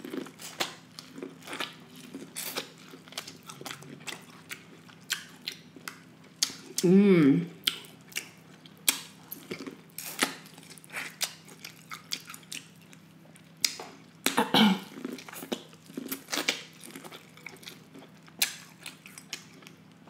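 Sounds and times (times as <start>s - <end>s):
chewing corn on the cob: 0.0s - 6.8s, 7.6s - 14.1s, 14.9s - 20.0s.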